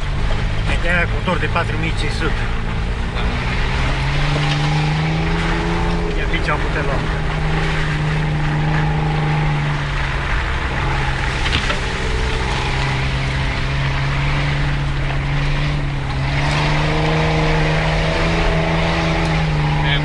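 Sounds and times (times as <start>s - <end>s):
engine pulling at low revs: 0.0s - 20.0s.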